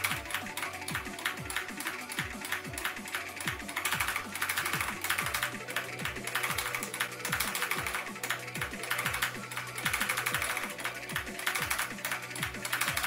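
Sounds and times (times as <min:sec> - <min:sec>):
electronic music with kick drum: 0:00.0 - 0:13.0
fast keyboard keypresses: 0:00.0 - 0:13.0.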